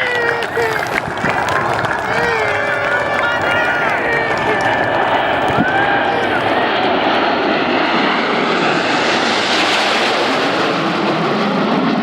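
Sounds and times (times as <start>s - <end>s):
jet aircraft roar: 0.0s - 12.0s.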